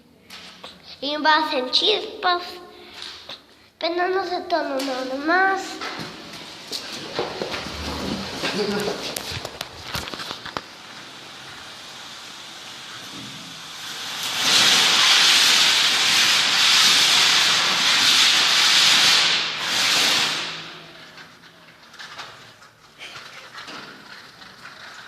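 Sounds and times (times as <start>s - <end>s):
firecrackers fizzing and hissing: 0.3s - 25.0s.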